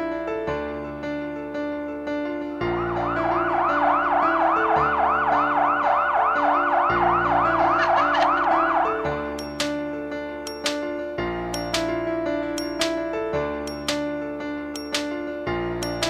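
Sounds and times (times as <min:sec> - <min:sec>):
sustained keyboard chords: 0:00.0 - 0:16.0.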